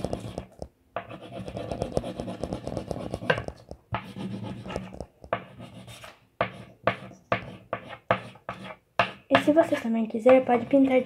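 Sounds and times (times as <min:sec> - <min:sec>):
crayon scribbling on paper: 0:00.0 - 0:11.0.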